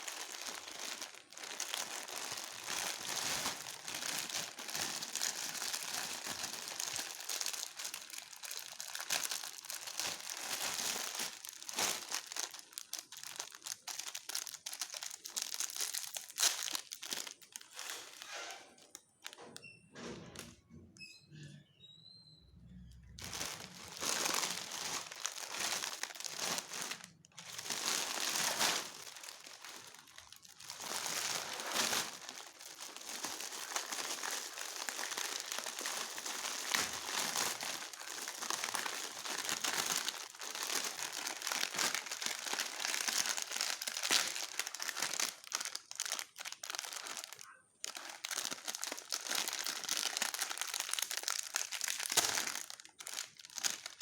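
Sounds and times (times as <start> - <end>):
plastic snack packets crinkling: 0.0 - 19.4, 23.0 - 54.0.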